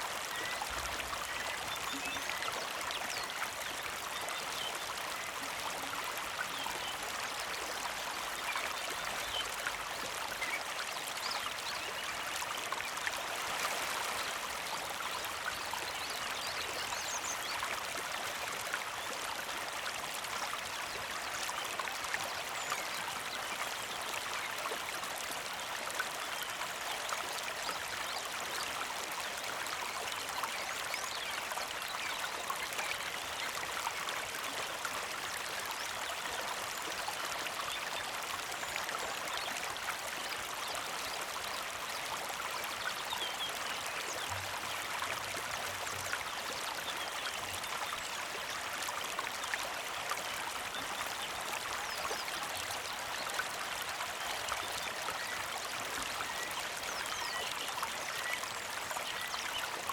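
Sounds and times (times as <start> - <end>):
creek water babbling over stones: 0.0 - 59.9.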